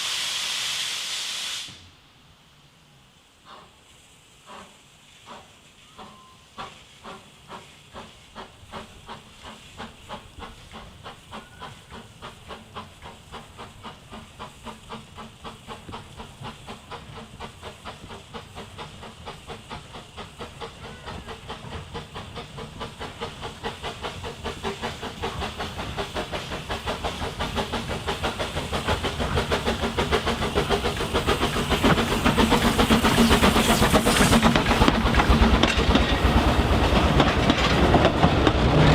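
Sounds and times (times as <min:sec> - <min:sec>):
steam locomotive exhaust chuffs: 0:00.0 - 0:02.3, 0:03.3 - 0:38.9
steam hiss: 0:00.0 - 0:38.9.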